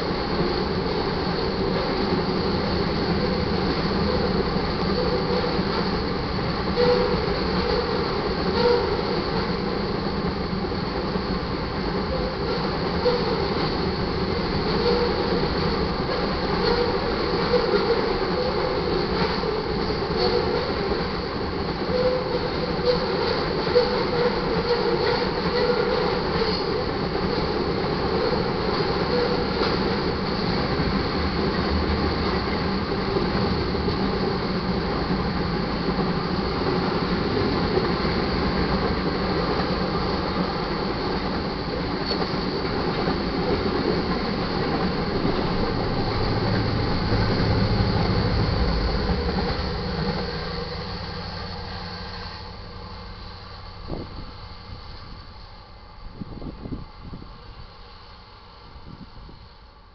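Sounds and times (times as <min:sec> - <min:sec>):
locomotive engine rumble: 0:00.0 - 0:59.9
steel wheels rumbling on rail: 0:00.0 - 0:59.9.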